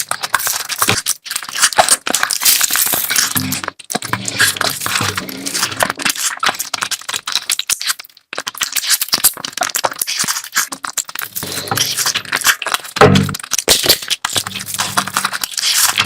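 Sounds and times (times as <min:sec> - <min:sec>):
chewing and mouth smacking: 0:00.0 - 0:16.0.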